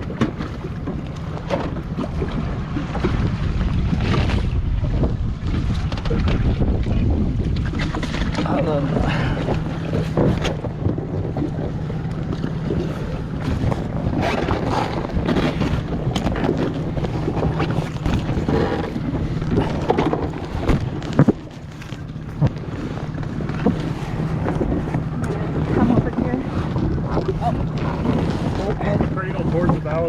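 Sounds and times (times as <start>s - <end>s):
boat engine idling: 0.0s - 30.0s
wind buffeting microphone: 0.0s - 30.0s.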